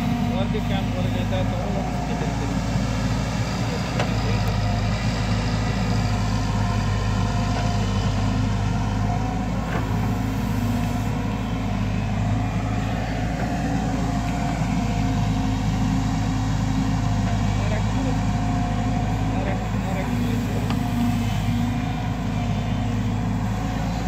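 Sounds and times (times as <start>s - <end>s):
excavator diesel engine running: 0.0s - 24.0s
excavator digging wet mud: 0.0s - 24.0s.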